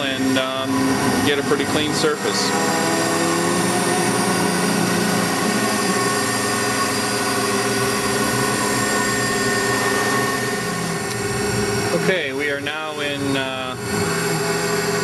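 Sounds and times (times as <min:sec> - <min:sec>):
cutter machining board: 0:00.0 - 0:15.0
milling machine spindle whine: 0:00.0 - 0:15.0.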